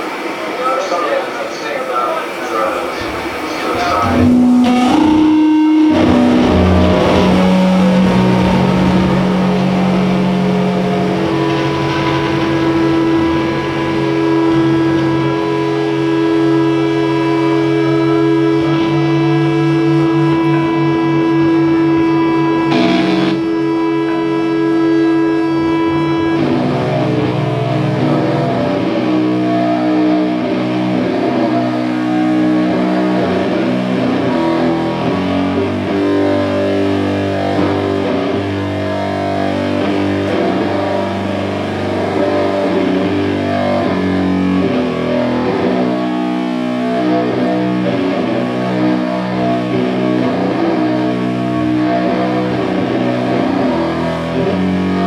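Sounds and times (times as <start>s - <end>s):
distorted electric guitar and bass: 2.8s - 55.0s.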